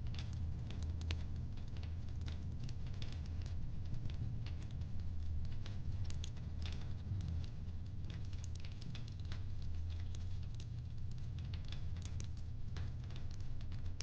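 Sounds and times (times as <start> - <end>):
low fire rumble: 0.0 - 14.0.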